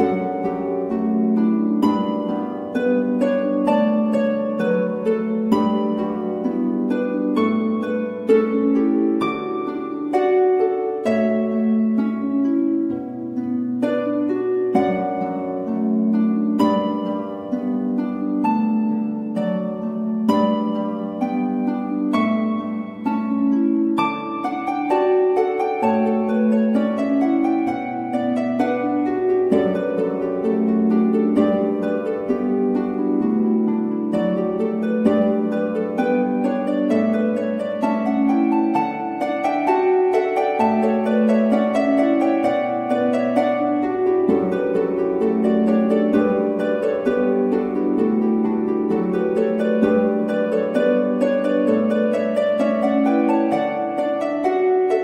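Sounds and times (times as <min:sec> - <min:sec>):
plucked instrumental music: 0:00.0 - 0:55.0.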